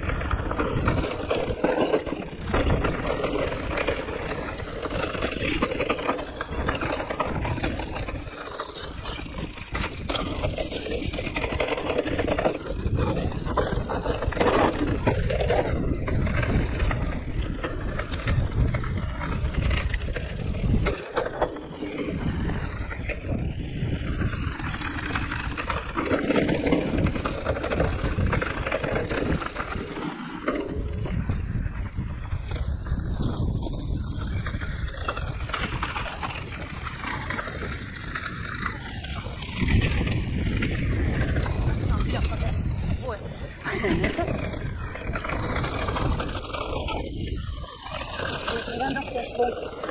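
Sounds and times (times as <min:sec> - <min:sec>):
bike knocking and rattling: 0:00.0 - 0:49.9
tyres rumbling on trail: 0:00.0 - 0:49.9.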